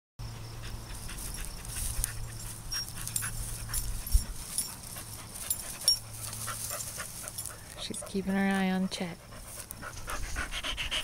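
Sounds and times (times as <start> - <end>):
rustling of foliage: 0.5 - 11.0.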